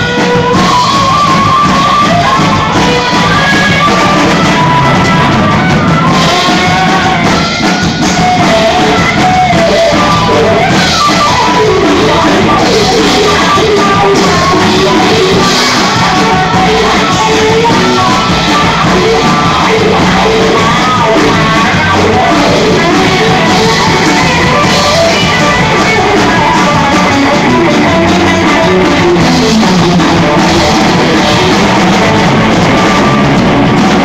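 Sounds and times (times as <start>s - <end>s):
live rock band playing: 0.0s - 34.0s
person singing: 0.0s - 34.0s.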